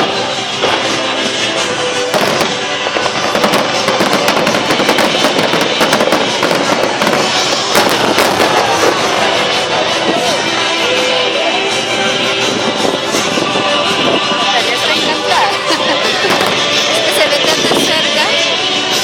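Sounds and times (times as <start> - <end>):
fireworks bangs and crackling: 0.0 - 19.0
music playing: 0.0 - 19.0.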